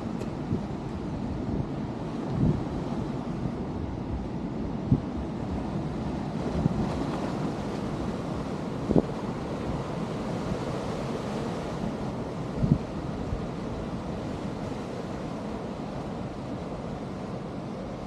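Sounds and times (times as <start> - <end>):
wind noise on microphone: 0.0 - 17.2.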